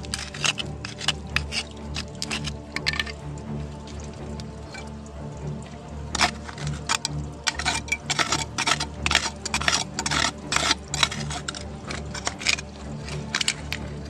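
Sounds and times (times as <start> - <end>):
tool scraping wet gravel: 0.0 - 5.1, 5.9 - 14.0.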